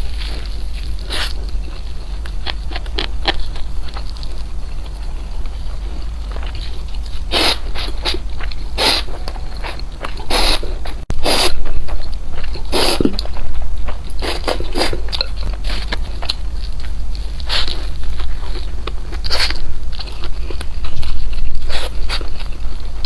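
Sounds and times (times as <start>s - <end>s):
crunchy chewing: 0.0s - 23.0s
steady low hum: 0.0s - 23.0s.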